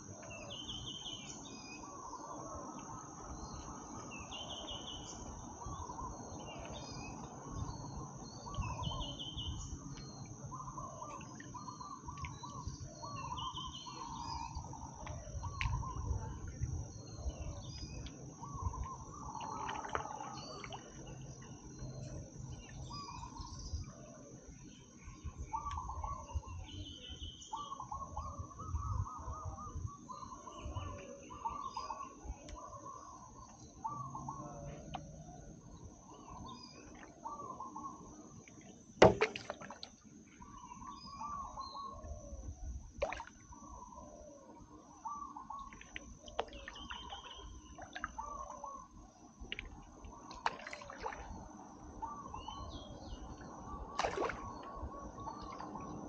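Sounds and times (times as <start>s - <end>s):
insect drone: 0.0s - 56.0s.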